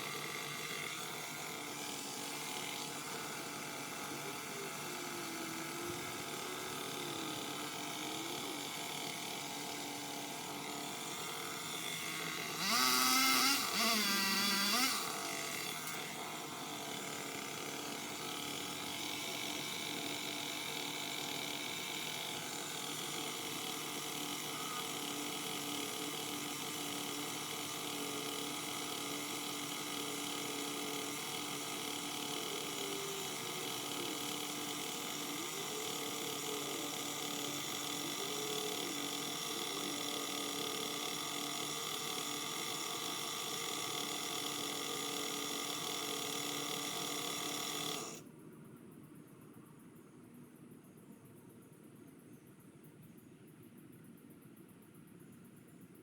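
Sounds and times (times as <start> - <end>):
small motor whining: 0.0 - 48.2.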